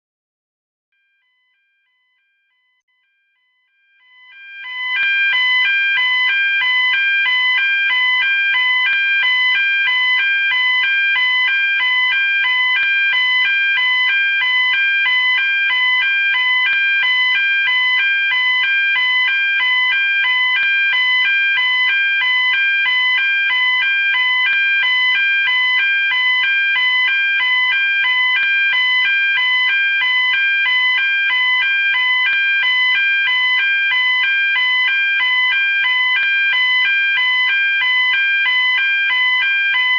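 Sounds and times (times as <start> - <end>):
fire alarm two-pitch tone: 1.0 - 39.9.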